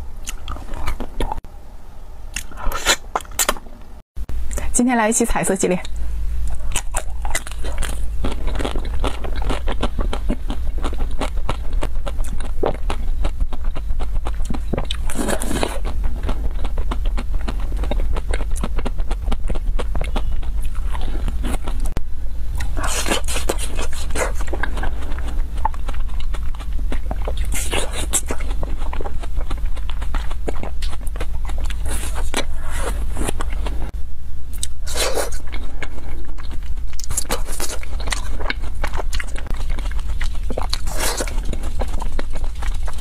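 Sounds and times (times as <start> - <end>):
low hum: 0.0 - 43.0
chewing ice cream crunches: 6.5 - 22.0, 22.6 - 33.9, 34.6 - 43.0.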